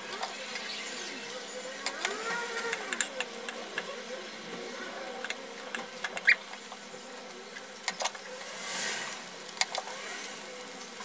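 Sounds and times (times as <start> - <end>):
beans sizzling in a frying pan: 0.0 - 11.0.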